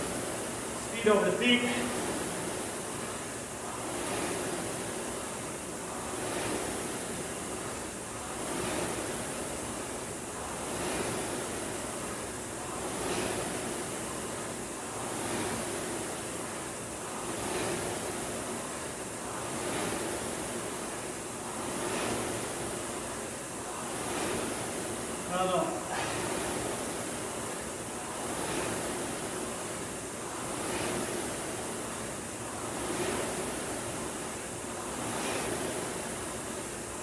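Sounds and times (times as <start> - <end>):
rowing machine flywheel whooshing: 0.0 - 37.0.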